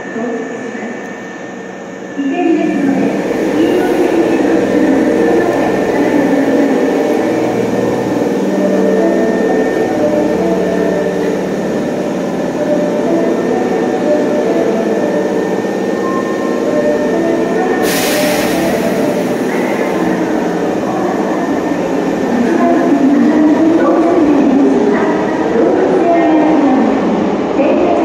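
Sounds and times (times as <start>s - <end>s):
subway train equipment hum: 0.0s - 28.0s.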